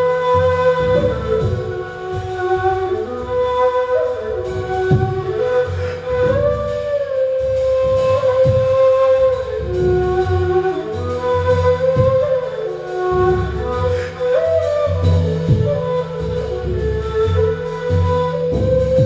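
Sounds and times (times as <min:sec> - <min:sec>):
flute slow melody: 0:00.0 - 0:19.0.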